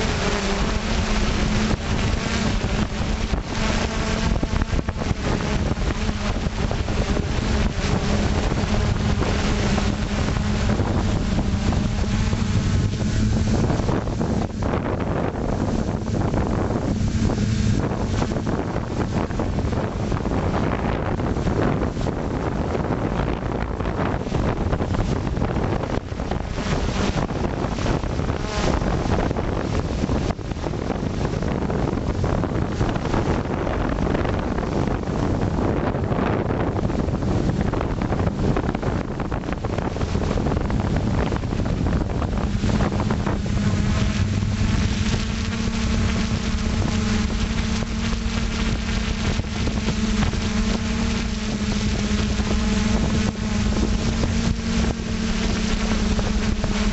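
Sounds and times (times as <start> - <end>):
drone motors humming: 0.0 - 56.9
wind rushing over microphone: 0.0 - 56.9.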